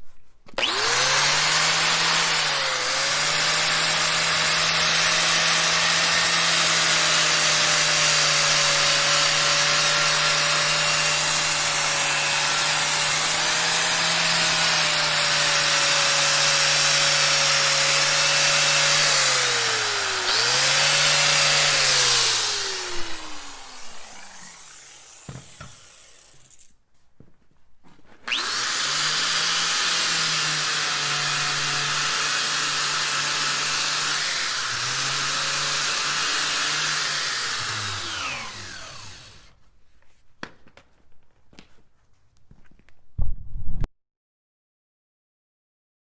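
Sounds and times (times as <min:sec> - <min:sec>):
angle grinder whining: 0:00.6 - 0:26.8, 0:28.2 - 0:39.6.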